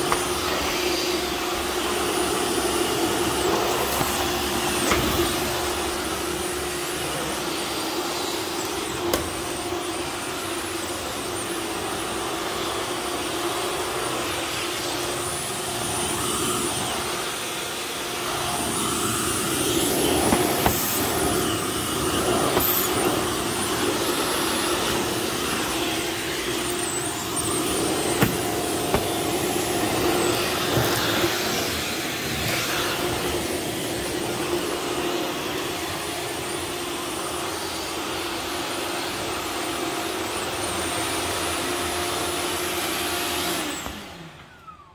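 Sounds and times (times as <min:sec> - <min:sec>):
cordless vacuum cleaner running: 0:00.0 - 0:44.9.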